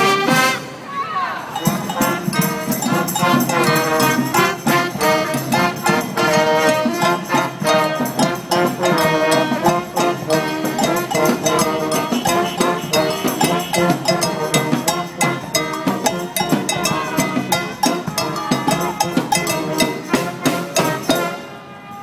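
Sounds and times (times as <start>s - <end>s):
brass band playing: 0.0s - 21.9s
drums and cymbal beating: 1.6s - 21.5s.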